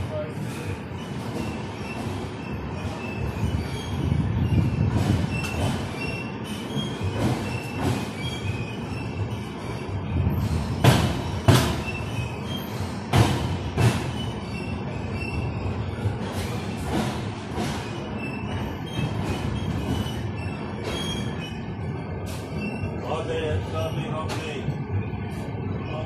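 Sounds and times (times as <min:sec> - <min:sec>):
train coach rumbling: 0:00.0 - 0:26.0.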